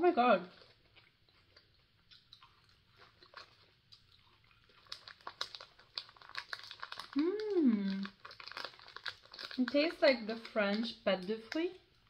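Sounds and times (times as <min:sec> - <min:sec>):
chewing with mouth clicks: 0:00.5 - 0:12.0.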